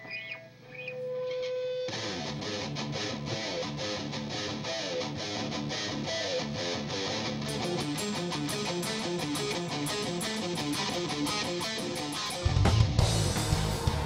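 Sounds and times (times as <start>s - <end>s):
distorted electric guitar riff: 0.0s - 14.0s
metal band playing live: 1.5s - 14.0s.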